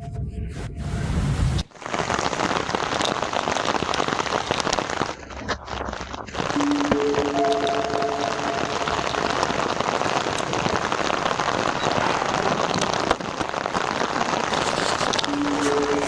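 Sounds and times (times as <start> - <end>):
steady rain patter: 1.6 - 16.0.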